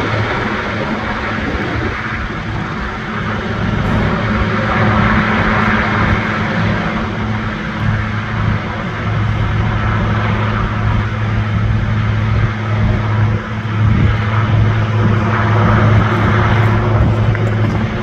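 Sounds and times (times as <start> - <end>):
helicopter rotor and turbine din: 0.0 - 18.0.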